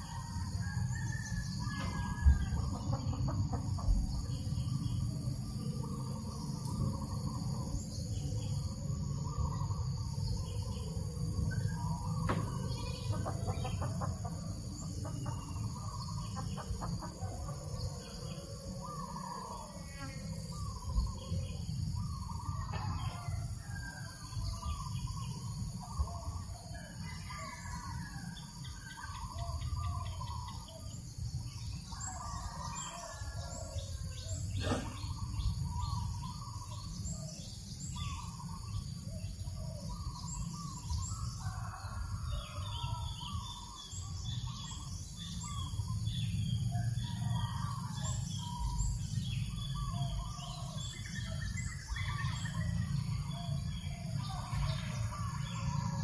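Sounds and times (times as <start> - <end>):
birds chirping and calling: 0.0 - 56.0
low rumble of breeze: 0.0 - 56.0.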